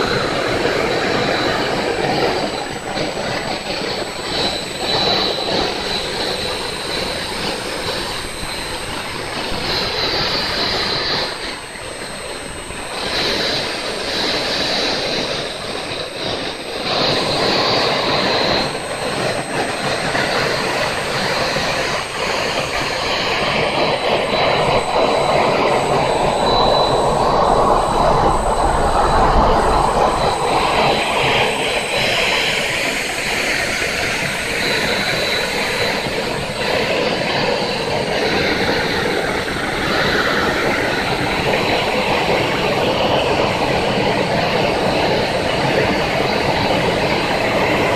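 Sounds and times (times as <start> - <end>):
high turbine whine: 0.0 - 47.9
turbine engine rushing: 0.0 - 47.9.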